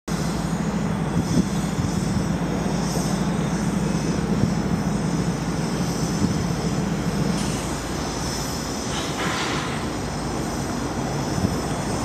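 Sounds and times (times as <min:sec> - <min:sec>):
diesel locomotive engines drone: 0:00.1 - 0:12.0.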